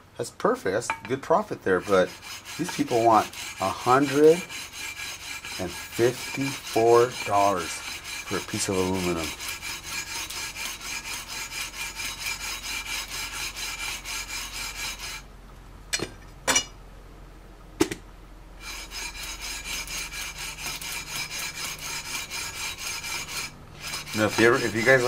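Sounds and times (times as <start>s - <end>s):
sandpaper rasping on frets: 1.4s - 15.2s, 18.6s - 25.0s.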